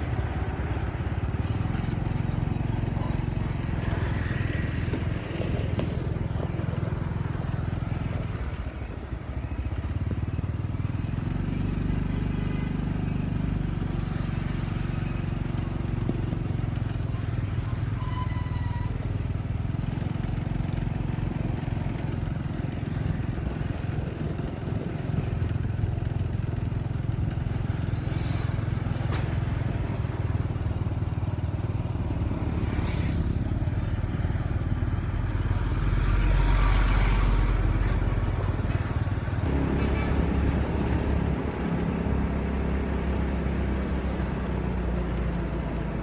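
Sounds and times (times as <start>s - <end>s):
scooter engine running: 0.0s - 17.8s, 19.4s - 36.6s, 37.4s - 46.0s
road noise: 0.0s - 46.0s.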